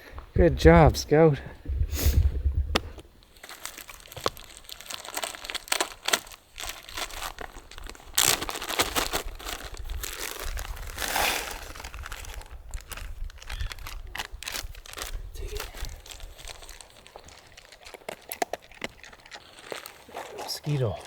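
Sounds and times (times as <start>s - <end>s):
plastic bag crinkling: 3.2s - 21.0s.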